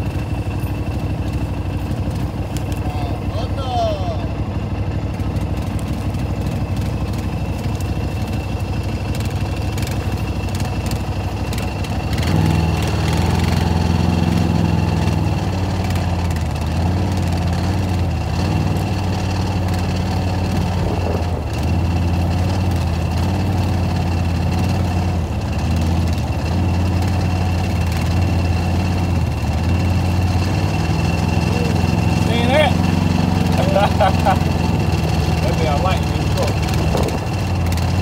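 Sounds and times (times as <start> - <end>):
engine running at low speed: 0.0 - 38.0.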